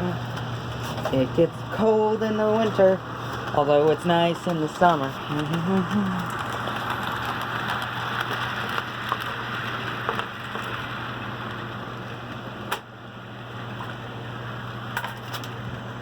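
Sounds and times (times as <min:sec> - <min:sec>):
model locomotive humming: 0:00.0 - 0:16.0.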